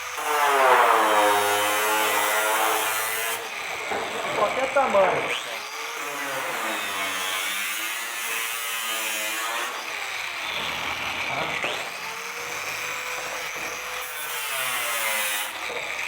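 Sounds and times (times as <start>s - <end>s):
angle grinder cutting sheet metal: 0.0s - 16.0s.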